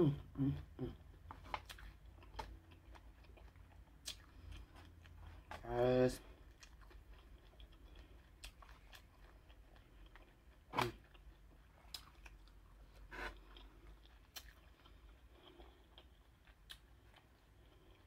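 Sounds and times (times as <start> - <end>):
chewing and mouth sounds: 0.2 - 18.0.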